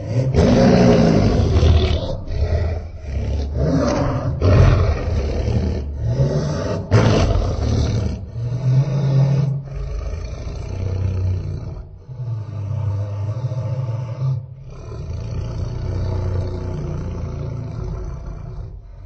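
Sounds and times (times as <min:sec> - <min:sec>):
deep monster roars: 0:00.0 - 0:19.0.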